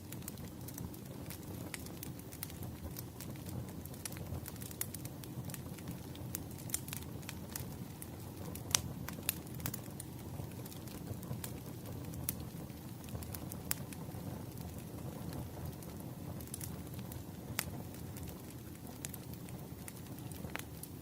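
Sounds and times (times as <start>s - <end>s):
fire crackling and popping: 0.0s - 21.0s
low rumble of burning: 0.0s - 21.0s.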